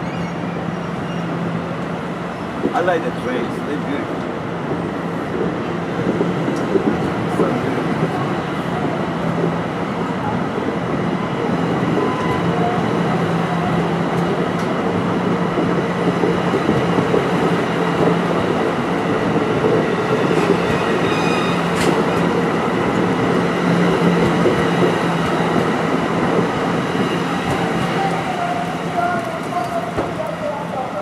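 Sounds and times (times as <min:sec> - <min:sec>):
train running on rails: 0:00.0 - 0:31.0.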